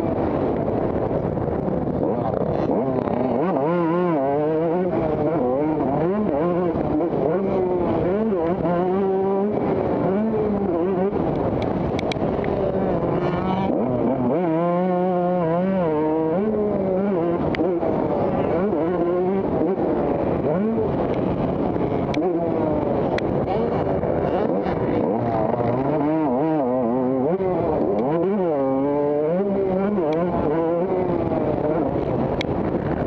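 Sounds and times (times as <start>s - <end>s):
motocross motorcycle engines revving: 0.0s - 33.0s.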